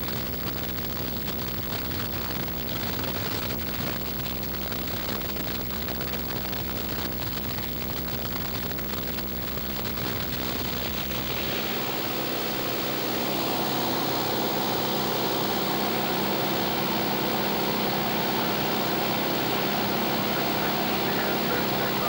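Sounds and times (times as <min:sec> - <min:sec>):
small plane engine and propeller: 0:02.8 - 0:22.0.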